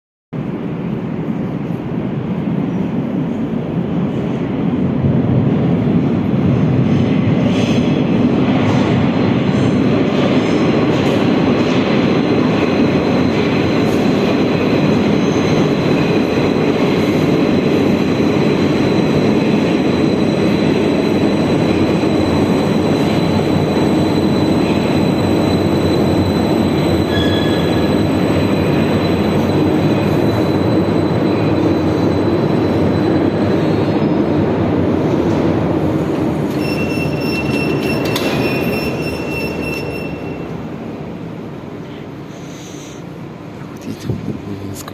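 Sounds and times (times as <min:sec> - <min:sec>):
train rail rumble: 0:00.4 - 0:44.9.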